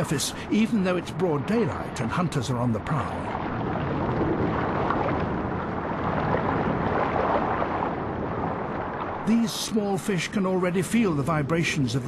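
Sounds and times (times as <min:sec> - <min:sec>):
underwater rushing noise: 0:00.0 - 0:12.0.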